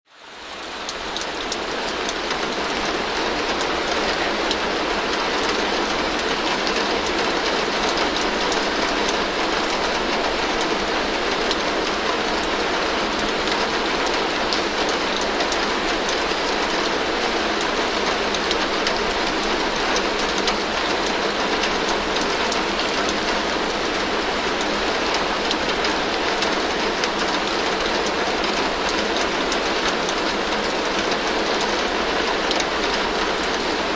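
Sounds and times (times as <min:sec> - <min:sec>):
heavy rain on a tin roof: 0:00.1 - 0:33.9.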